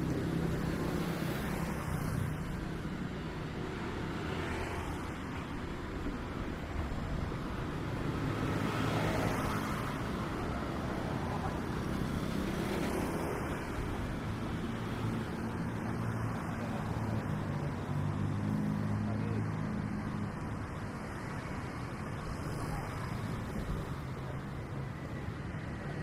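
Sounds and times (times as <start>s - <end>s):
road noise hum: 0.0s - 26.0s
vehicles passing: 0.0s - 26.0s.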